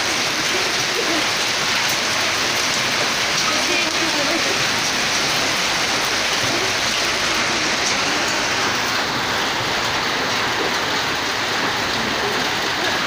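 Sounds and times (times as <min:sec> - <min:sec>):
heavy rain and hail on paving: 0:00.0 - 0:13.0.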